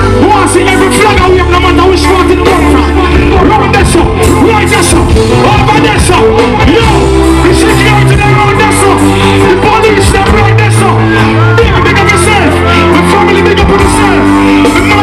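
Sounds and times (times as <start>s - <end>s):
loud live music with bass and beat: 0.0s - 15.0s
person singing: 0.0s - 15.0s.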